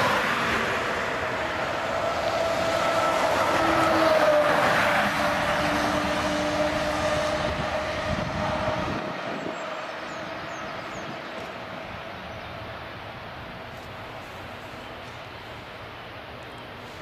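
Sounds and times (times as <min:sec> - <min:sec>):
train rumble and whine: 0:00.0 - 0:17.0.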